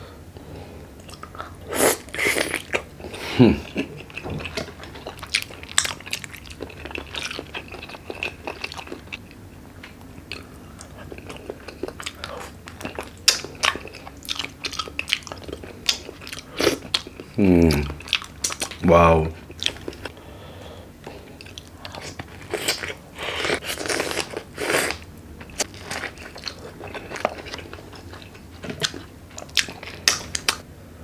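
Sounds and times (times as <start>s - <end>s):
man chewing and biting: 1.0s - 18.8s, 19.4s - 20.2s, 21.0s - 30.6s.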